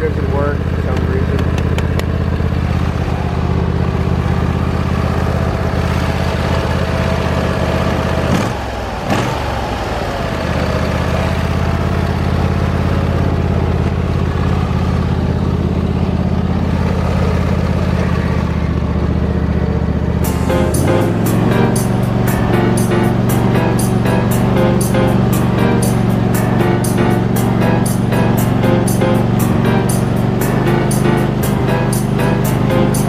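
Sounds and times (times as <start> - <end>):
lawn tractor engine running: 0.0 - 33.0.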